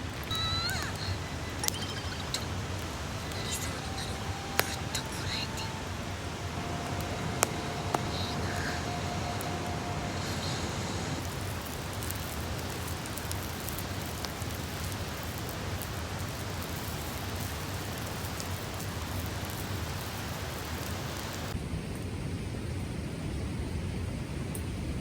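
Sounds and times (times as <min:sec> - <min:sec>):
faint fire pops: 0:00.0 - 0:22.1
campfire hissing: 0:00.0 - 0:25.0.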